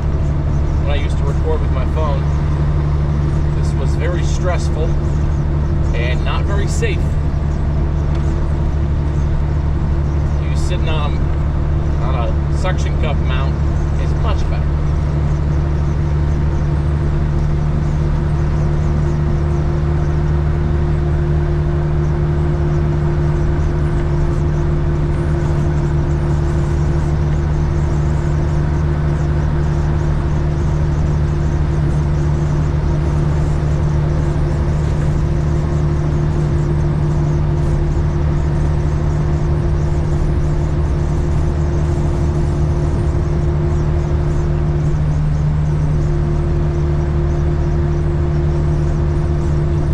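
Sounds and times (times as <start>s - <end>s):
diesel engine drone: 0.0s - 49.9s
road noise: 0.0s - 49.9s.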